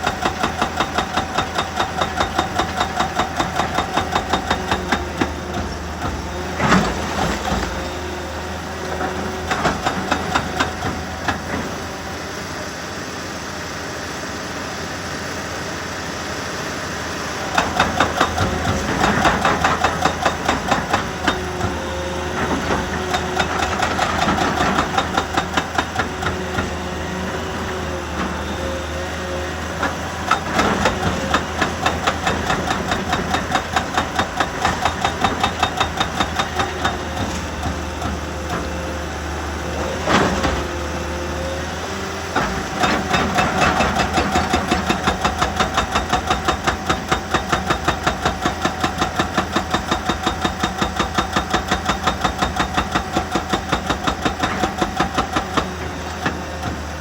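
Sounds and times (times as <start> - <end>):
excavator rapid pounding: 0.0 - 7.9, 9.0 - 11.9, 17.4 - 28.5, 29.6 - 40.9, 42.4 - 57.0.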